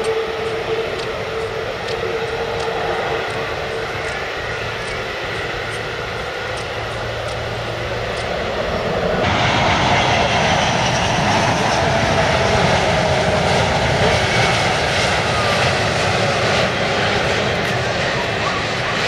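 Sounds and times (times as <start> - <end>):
distant jet sound: 0.0 - 19.0
jet engines roaring with whine: 0.0 - 19.0.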